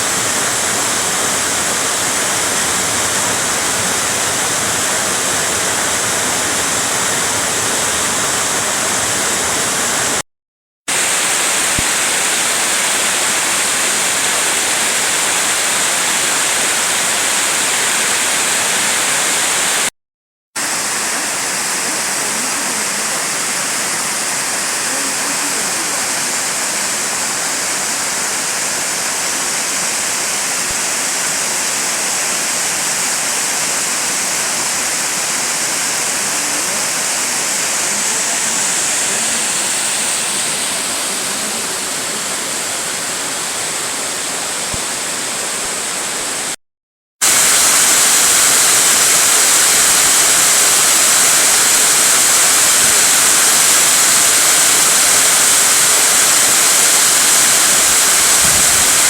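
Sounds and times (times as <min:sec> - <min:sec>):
waterfall rushing: 0:00.0 - 0:10.2, 0:10.9 - 0:19.9, 0:20.6 - 0:46.6, 0:47.2 - 0:59.0.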